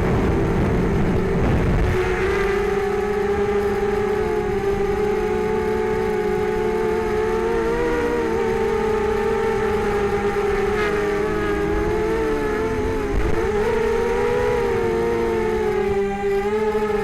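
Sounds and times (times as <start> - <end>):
drone motors buzzing: 0.0 - 17.0.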